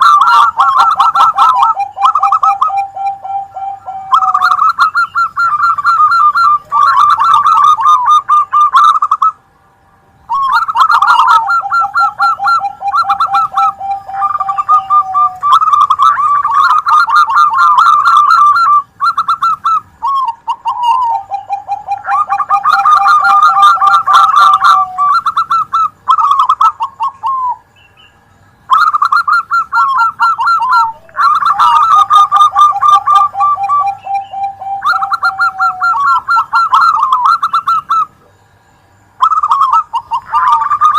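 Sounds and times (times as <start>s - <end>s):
doves cooing: 0.0s - 9.4s, 10.3s - 28.1s, 28.7s - 38.6s, 39.2s - 40.9s
low rolling bird trill: 0.0s - 9.5s, 10.2s - 40.9s.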